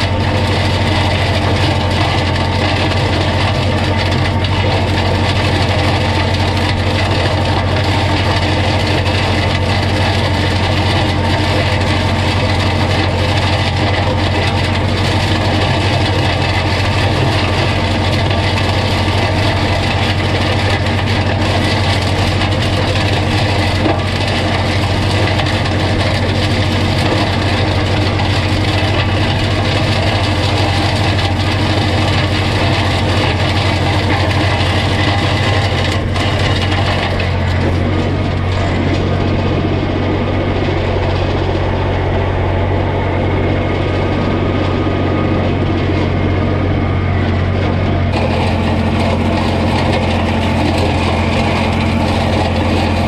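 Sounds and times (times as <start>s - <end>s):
mulcher chopping and rattling: 0.0s - 53.0s
tractor diesel engine droning: 0.0s - 53.0s.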